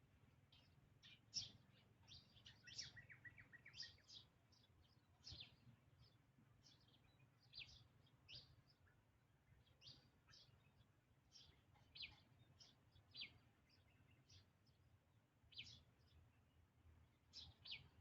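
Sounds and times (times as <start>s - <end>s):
birds chirping: 0.4s - 18.0s.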